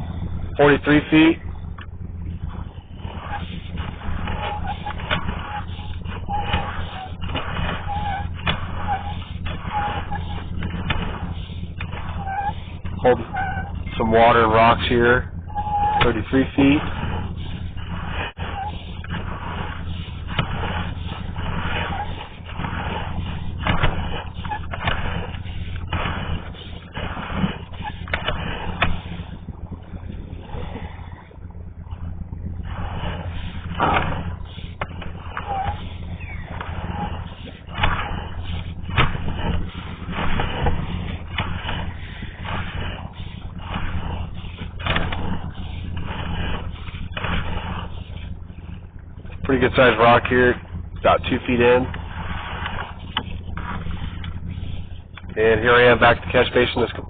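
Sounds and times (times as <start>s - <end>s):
cable scraping in pipe: 0.0s - 57.0s
steady low hum: 0.0s - 57.0s.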